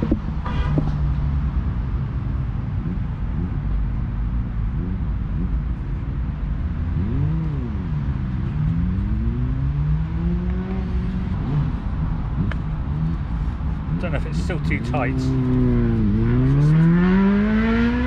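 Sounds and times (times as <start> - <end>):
car engines accelerating and passing: 0.0 - 18.0
low traffic rumble: 0.0 - 18.0.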